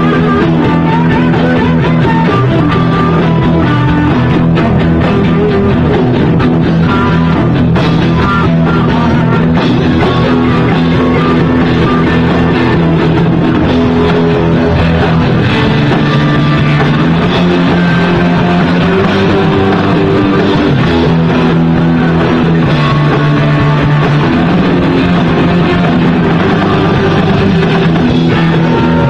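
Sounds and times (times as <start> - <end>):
electric guitar: 0.0 - 29.0
rock band playing live: 0.0 - 29.0.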